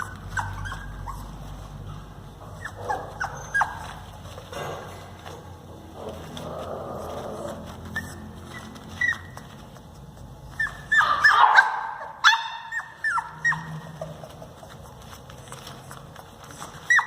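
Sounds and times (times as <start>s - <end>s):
puppy giving high-pitched cries: 0.0s - 4.5s, 7.0s - 17.0s.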